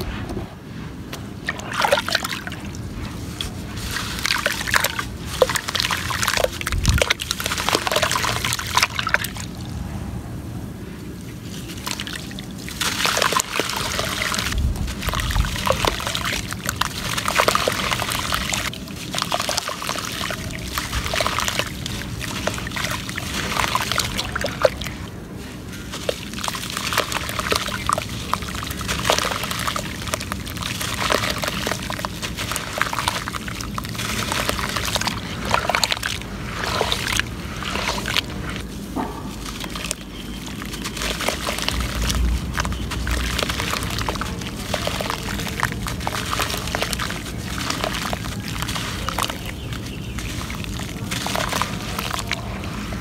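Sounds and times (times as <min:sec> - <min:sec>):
dirt crumbling into water: 0:01.1 - 0:09.7, 0:11.4 - 0:53.0.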